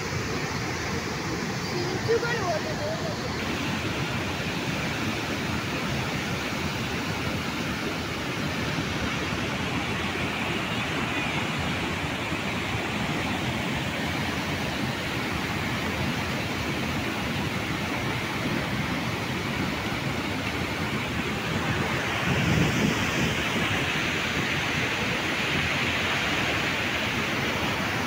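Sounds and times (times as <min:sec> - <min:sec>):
floodwater rushing through dam gates: 0:00.0 - 0:28.0.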